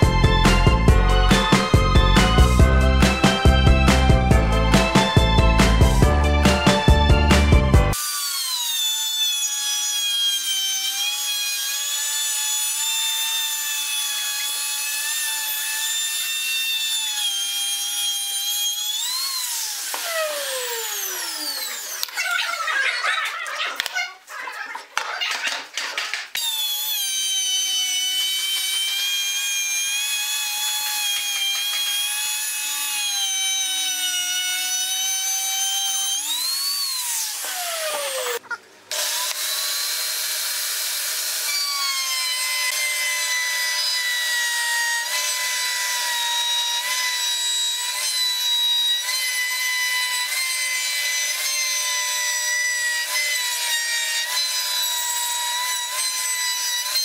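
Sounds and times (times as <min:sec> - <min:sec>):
power tool cutting wood: 0:00.0 - 0:23.9, 0:26.2 - 0:57.0.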